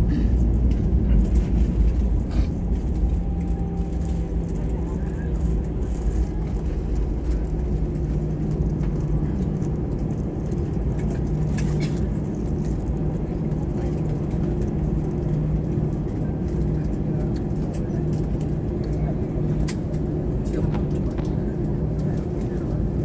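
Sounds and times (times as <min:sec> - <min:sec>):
airliner cabin engine rumble: 0:00.0 - 0:23.0
steady low hum: 0:00.0 - 0:23.0.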